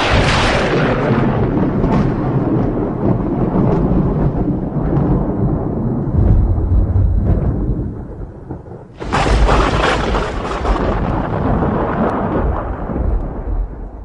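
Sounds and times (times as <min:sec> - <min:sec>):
thunder crack and rumble: 0:00.0 - 0:14.0.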